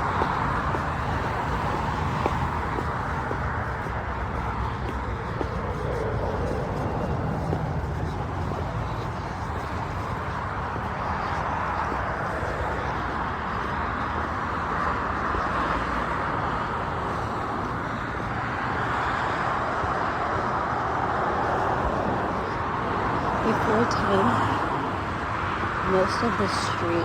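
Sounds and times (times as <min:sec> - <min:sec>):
rushing background noise: 0:00.0 - 0:27.0.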